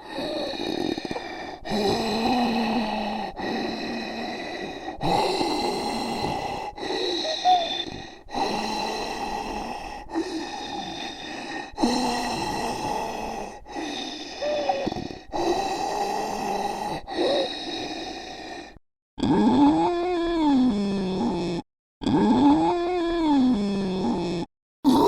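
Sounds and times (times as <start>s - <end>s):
zombie rasping gasps and groans: 0.0s - 25.0s.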